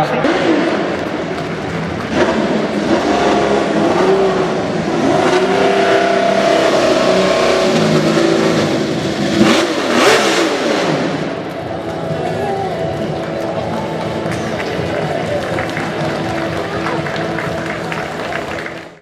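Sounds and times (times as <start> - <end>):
loud engine bursts: 0.0 - 19.0
racing car engine at high revs: 0.0 - 19.0.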